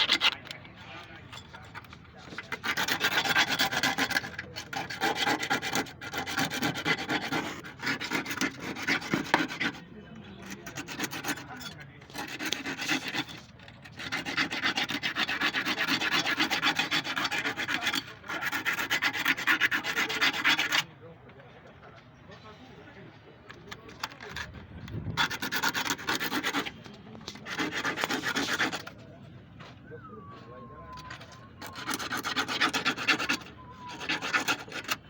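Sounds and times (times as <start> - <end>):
fast abrasive rubbing: 0.0 - 20.9, 23.9 - 29.0, 30.9 - 35.0.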